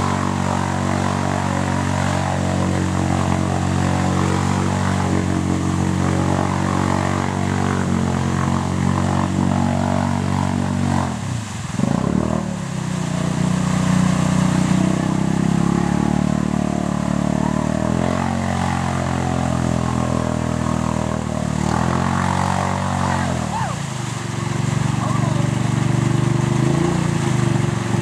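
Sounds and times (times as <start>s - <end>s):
quad bike engine revving: 0.0s - 28.0s
wheels spinning in mud: 0.0s - 28.0s.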